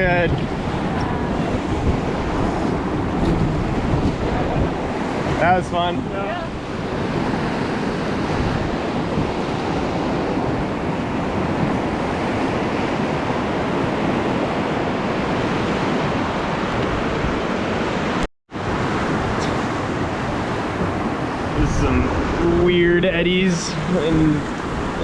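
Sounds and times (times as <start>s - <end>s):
whitewater roar: 0.0s - 25.0s
wind rumbling on microphone: 0.0s - 25.0s.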